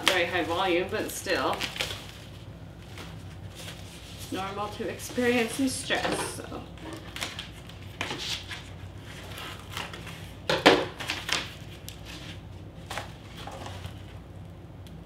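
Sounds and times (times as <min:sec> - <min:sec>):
cardboard crinkling and rustling: 0:00.0 - 0:14.2.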